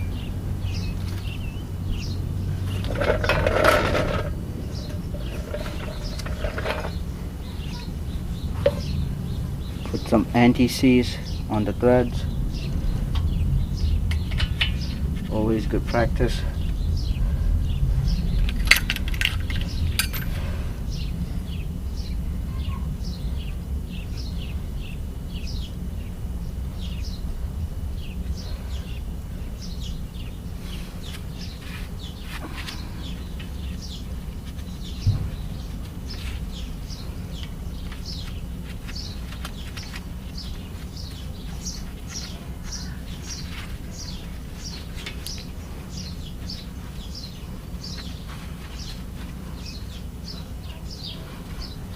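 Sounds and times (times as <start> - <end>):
birds chirping: 0.0 - 51.9
steady low rumble: 0.0 - 51.9.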